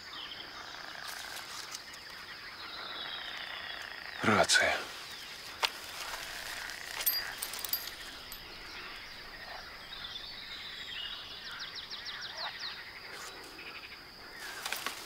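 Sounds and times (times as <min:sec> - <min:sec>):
high insect buzz: 0:00.5 - 0:15.0.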